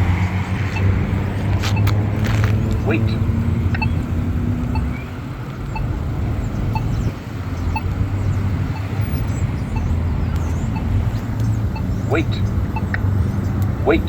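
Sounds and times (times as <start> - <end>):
pedestrian signal tone beeping: 0.0 - 14.0
road traffic: 0.0 - 14.0.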